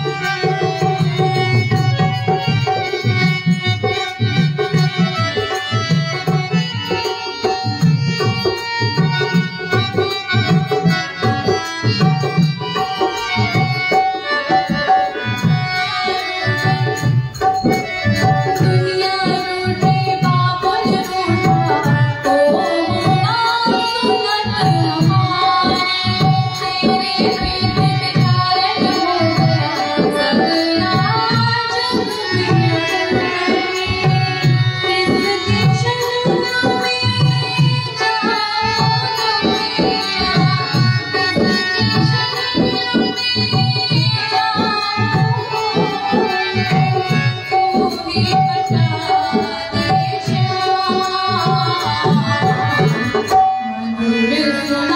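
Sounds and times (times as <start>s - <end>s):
devotional melody: 0.0s - 54.9s
tabla rhythm: 0.0s - 54.9s.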